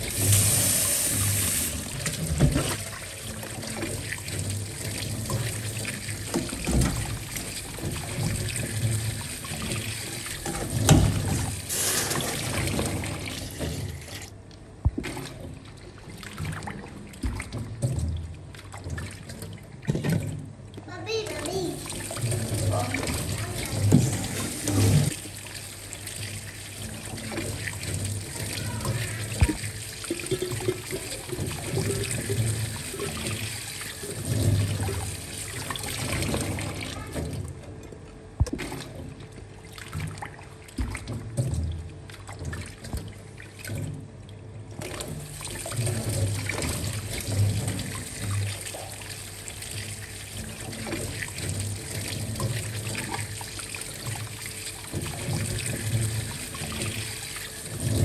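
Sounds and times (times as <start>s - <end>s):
liquid trickling and splashing: 0.0s - 58.0s.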